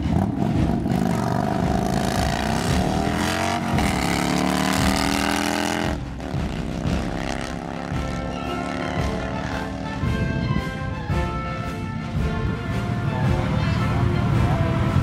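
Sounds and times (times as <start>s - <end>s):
motorcycle engines accelerating: 0.0s - 15.0s.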